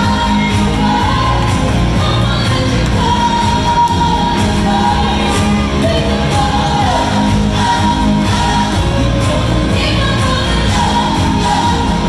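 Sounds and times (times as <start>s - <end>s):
band choir and strings: 0.0s - 12.0s
woman singing: 0.0s - 12.0s.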